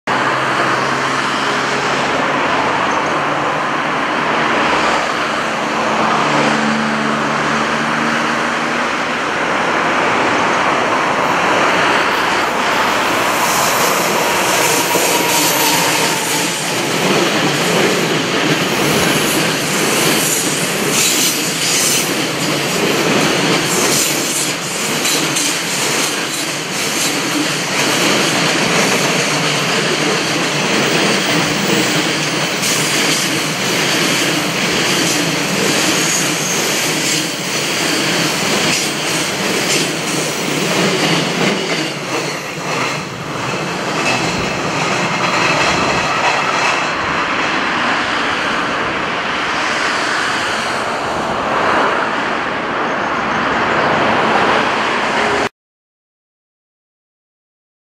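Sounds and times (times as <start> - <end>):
train wheels rumbling on rail: 0.1 - 55.5.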